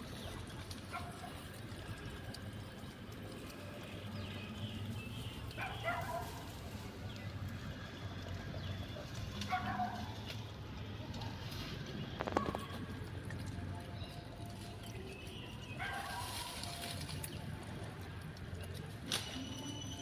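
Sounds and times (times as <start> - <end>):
low outdoor background noise: 0.0 - 20.0.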